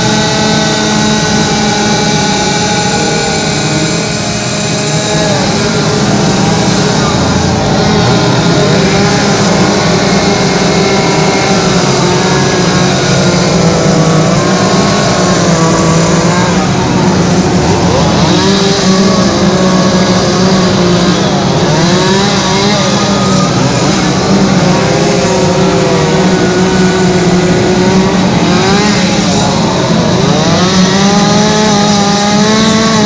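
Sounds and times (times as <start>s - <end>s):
chainsaw engines revving: 0.0s - 33.0s.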